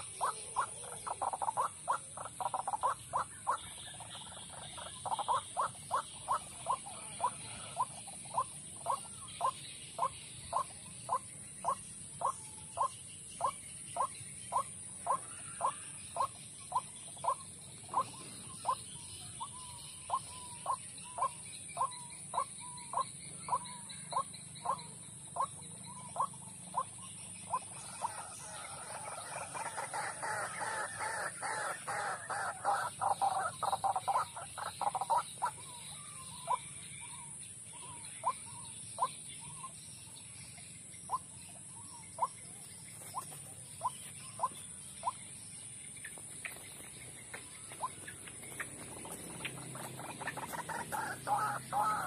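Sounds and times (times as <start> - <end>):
waterhens croaking: 0.0 - 39.2, 43.0 - 52.0.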